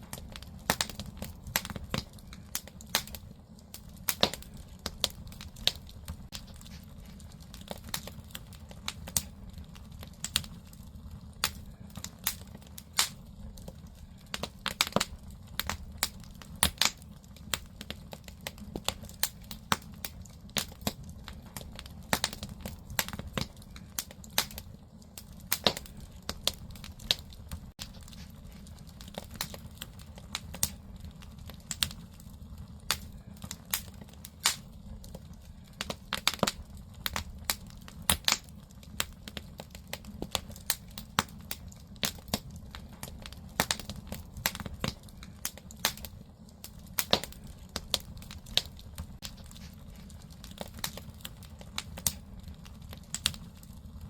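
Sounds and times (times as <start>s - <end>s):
firewood crackling and popping: 0.0s - 54.0s
low rumble of fire: 0.0s - 54.0s.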